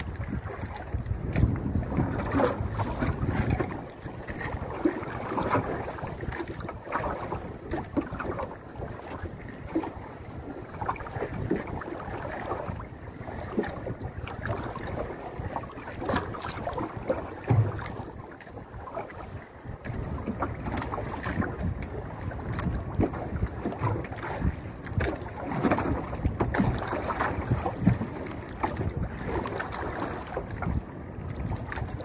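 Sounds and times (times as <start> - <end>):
water lapping against boat hull: 0.0 - 32.0
wind rumbling on microphone: 0.0 - 32.0.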